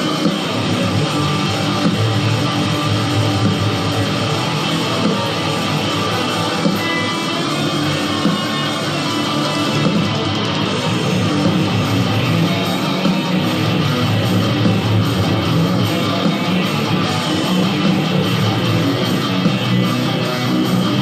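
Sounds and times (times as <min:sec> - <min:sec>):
guitar improvising: 0:00.0 - 0:21.0.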